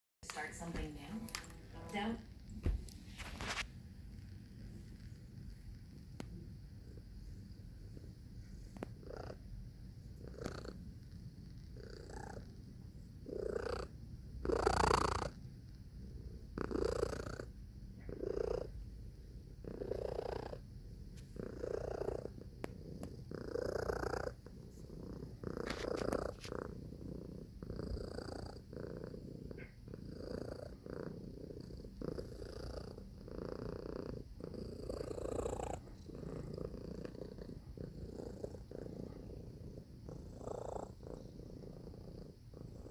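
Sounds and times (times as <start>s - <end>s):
cat purring: 0.3s - 42.9s.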